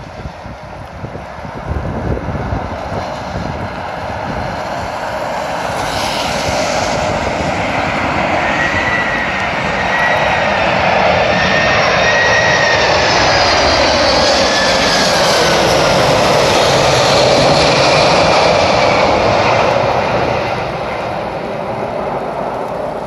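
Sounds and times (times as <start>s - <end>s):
jet engines with whining tones: 0.0s - 23.0s.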